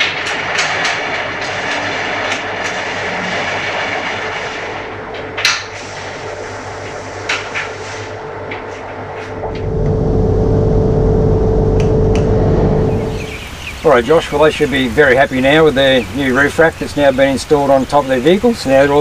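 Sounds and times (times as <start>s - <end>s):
deep rumble: 0.0s - 16.0s
workshop hum: 0.0s - 19.0s.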